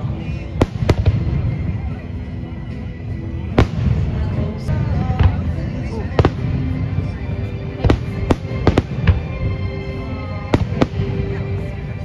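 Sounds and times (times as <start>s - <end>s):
fireworks bursting with sharp bangs: 0.0s - 2.0s, 3.4s - 12.0s.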